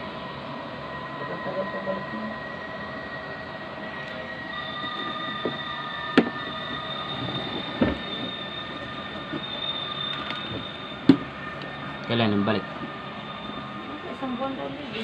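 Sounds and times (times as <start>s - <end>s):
mechanical whine: 0.0s - 15.0s.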